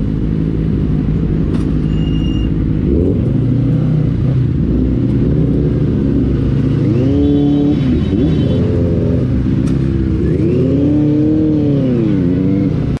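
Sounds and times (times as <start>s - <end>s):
motorcycle engine revving: 2.5s - 13.0s.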